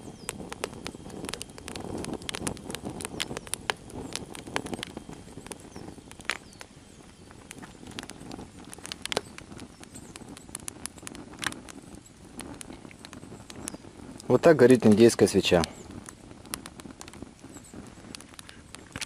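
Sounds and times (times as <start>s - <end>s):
flames rushing: 0.0s - 19.0s
log fire crackling and popping: 0.0s - 19.0s.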